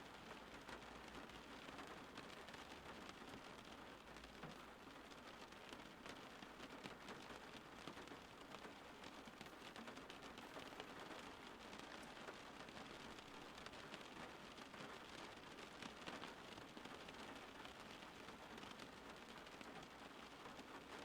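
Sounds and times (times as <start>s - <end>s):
faint steady rain: 0.0s - 21.0s.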